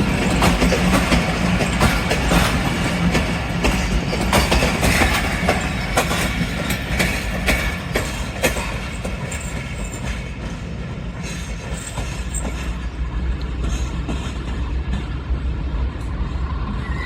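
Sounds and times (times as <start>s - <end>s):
wheels clacking over rail joints: 0.0s - 16.3s
train rumble: 0.0s - 17.0s.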